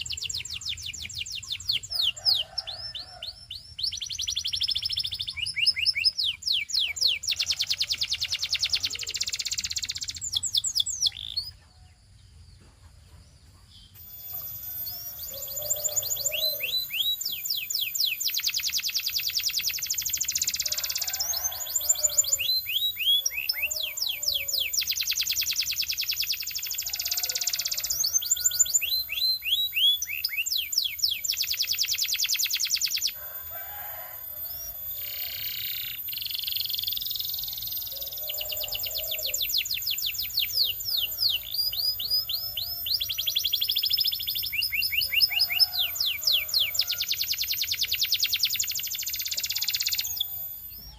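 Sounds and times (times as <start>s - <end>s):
canary singing: 0.0s - 11.6s, 13.8s - 50.9s.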